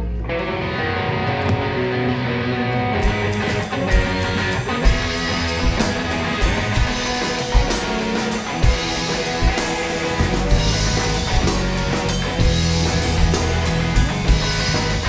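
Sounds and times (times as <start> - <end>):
electric guitar: 0.0 - 15.0
live rock band playing: 0.1 - 15.0.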